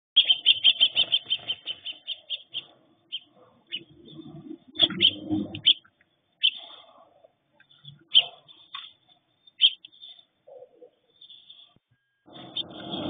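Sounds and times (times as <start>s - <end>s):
sparrows chirping: 0.2s - 13.0s.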